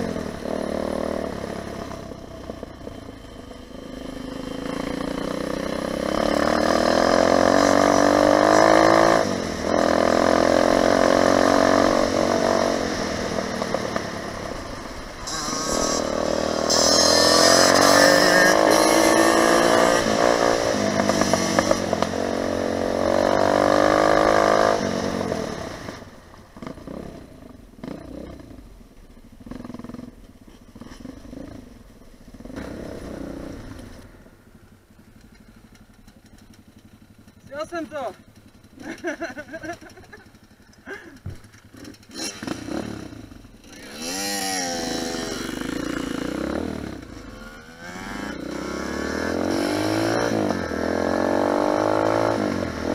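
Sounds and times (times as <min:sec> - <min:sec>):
motorbike engine accelerating: 0:00.0 - 0:52.9.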